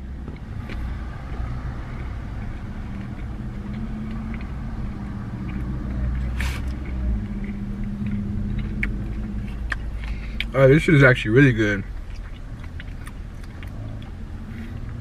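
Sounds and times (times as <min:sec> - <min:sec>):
car engine idling: 0:00.0 - 0:15.0
chewing clicks: 0:00.2 - 0:15.0.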